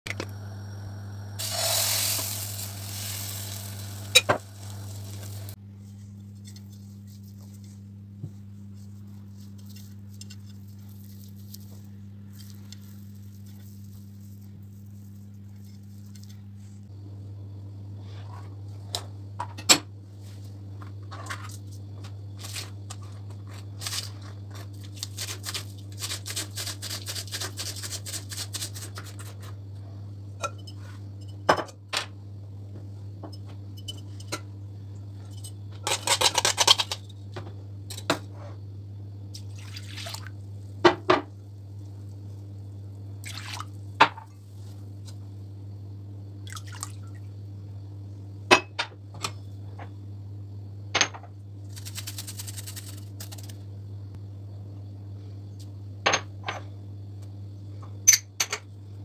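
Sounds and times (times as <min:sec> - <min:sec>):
steady low hum: 0:00.1 - 0:26.0, 0:28.7 - 0:59.0.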